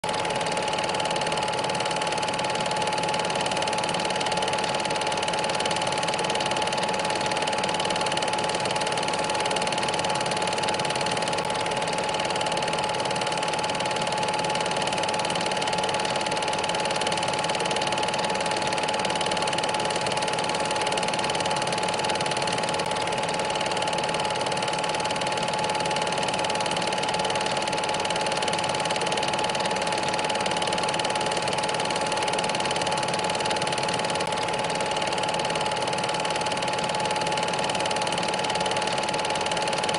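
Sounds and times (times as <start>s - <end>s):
projector whirring: 0.1s - 39.9s.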